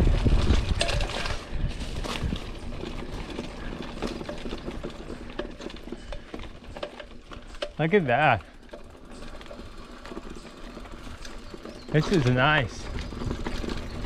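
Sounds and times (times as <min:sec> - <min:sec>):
bike rattling on rocky trail: 0:00.0 - 0:14.0.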